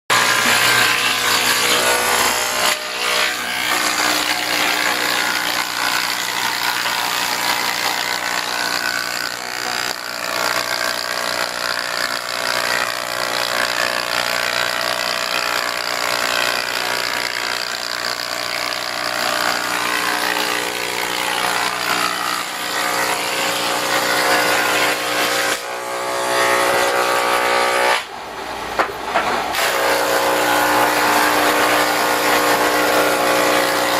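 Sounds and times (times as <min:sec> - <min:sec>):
sawmill machine hum: 0:00.1 - 0:33.9.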